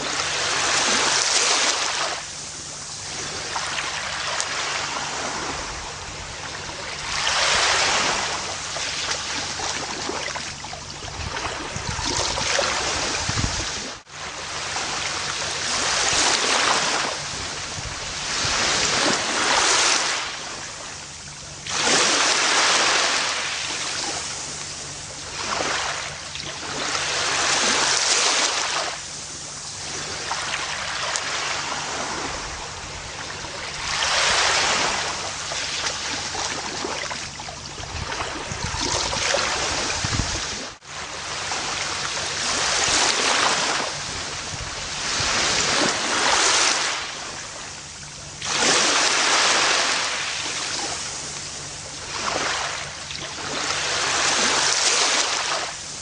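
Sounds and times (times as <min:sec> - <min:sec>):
ocean waves washing up beach: 0:00.0 - 0:56.0.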